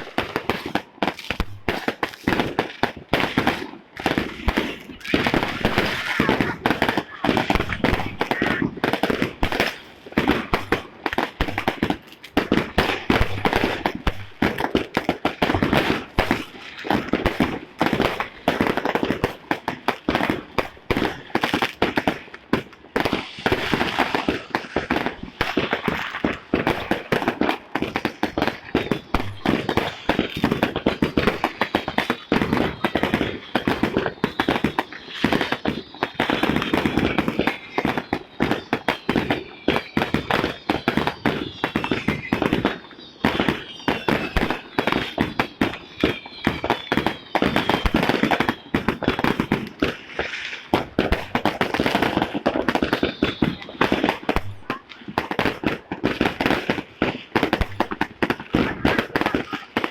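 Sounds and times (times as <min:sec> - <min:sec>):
fireworks and firecrackers banging: 0:00.0 - 0:59.9
whistling fireworks: 0:00.0 - 0:59.9.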